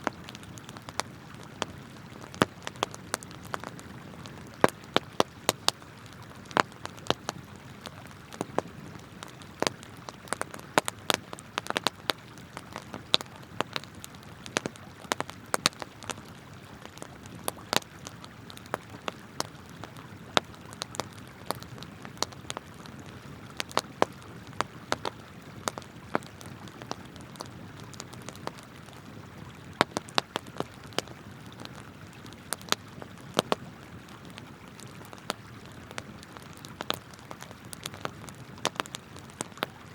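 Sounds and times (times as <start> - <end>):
campfire crackling and popping: 0.0 - 39.9
flowing river water: 0.0 - 39.9.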